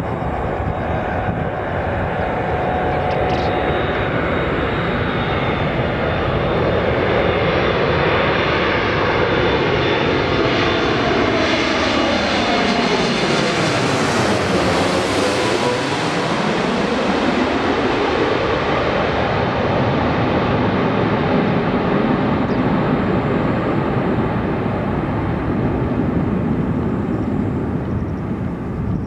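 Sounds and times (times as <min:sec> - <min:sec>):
jet aircraft passing overhead: 0:00.0 - 0:29.0.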